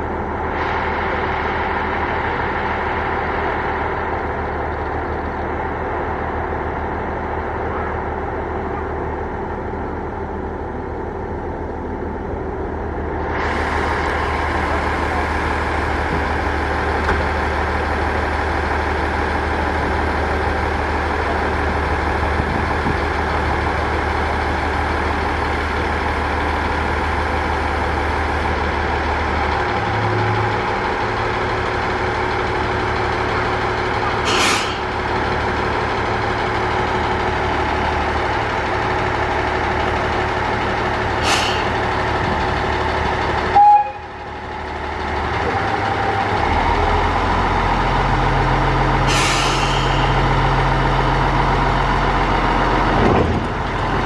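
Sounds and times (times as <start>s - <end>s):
railcar engine idling: 0.0s - 54.0s.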